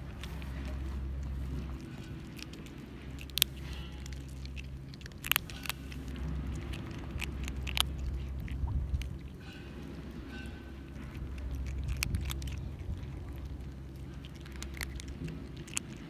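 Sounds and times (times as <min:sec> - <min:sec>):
cats crunching dry kibble: 0:00.0 - 0:16.0
low steady hum: 0:00.0 - 0:16.0.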